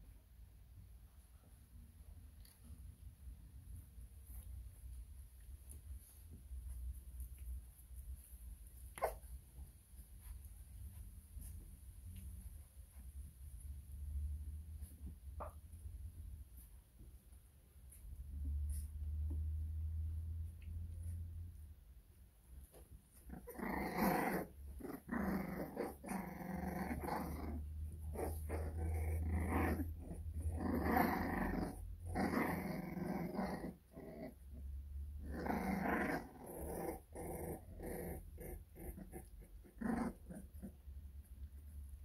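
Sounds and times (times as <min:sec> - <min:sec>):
puppies growling in play: 0:02.2 - 0:42.0.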